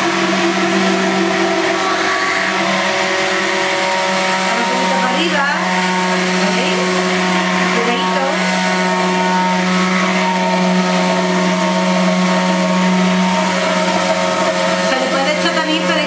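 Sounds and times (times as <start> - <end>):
immersion blender running: 0.0 - 16.0.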